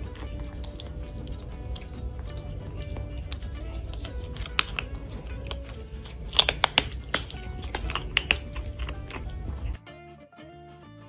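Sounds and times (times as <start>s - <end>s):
cats crunching dry kibble: 0.0s - 9.8s
background music: 0.0s - 11.0s.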